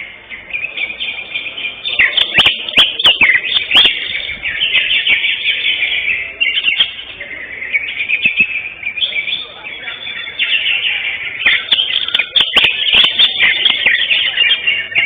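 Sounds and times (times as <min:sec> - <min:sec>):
bird singing chirps and whistles: 0:00.0 - 0:15.0.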